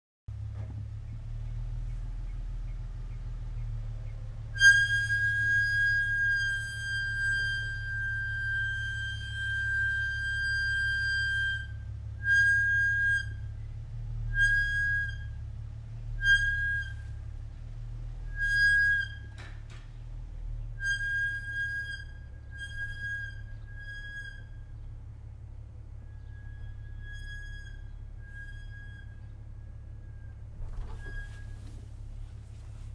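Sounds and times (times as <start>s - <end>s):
brakes squealing: 0.3s - 32.9s
low rumble: 0.3s - 32.9s.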